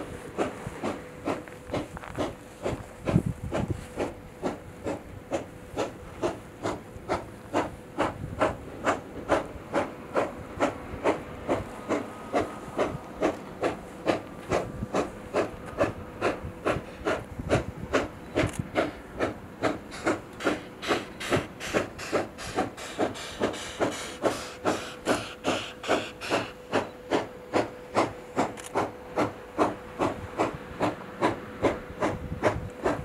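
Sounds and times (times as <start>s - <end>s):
steam locomotive exhaust beat: 0.0s - 33.0s.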